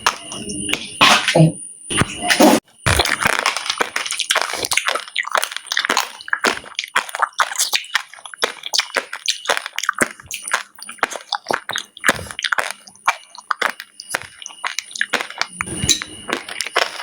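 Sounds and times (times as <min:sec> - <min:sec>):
chewing crunchy seeds: 0:02.4 - 0:17.0.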